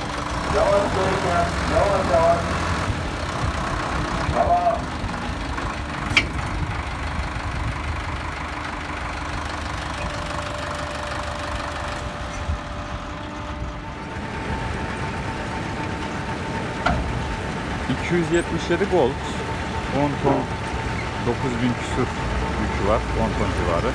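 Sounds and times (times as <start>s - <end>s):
diesel tractor engine idling: 0.0s - 23.9s.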